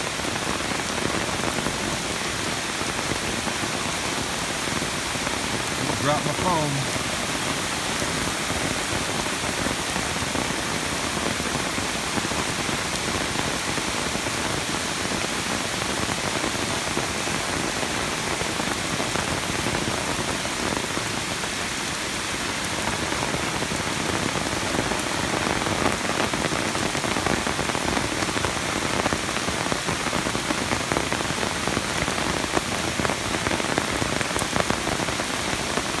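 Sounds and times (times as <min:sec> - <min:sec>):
hiss of water and rain: 0:00.0 - 0:36.0.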